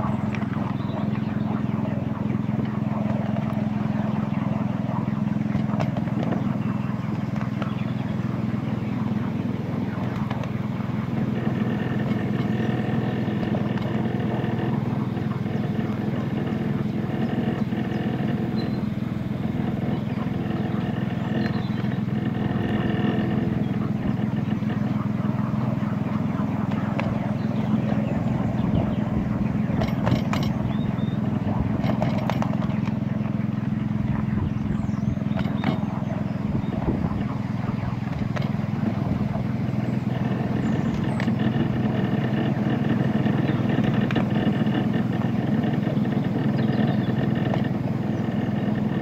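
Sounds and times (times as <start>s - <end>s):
miniature locomotive engine hum: 0.0s - 49.0s.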